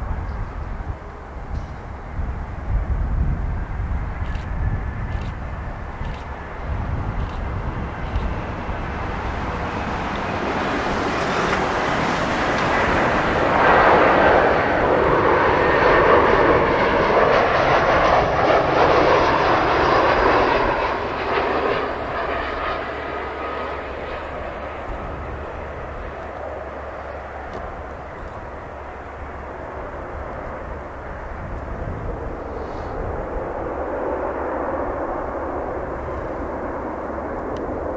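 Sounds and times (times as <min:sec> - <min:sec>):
jet airliner passing by: 0:00.0 - 0:37.9.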